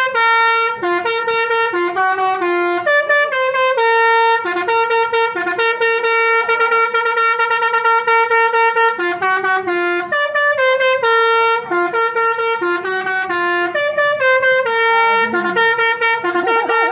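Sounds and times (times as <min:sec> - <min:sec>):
bus air horn playing a tune: 0:00.0 - 0:16.9.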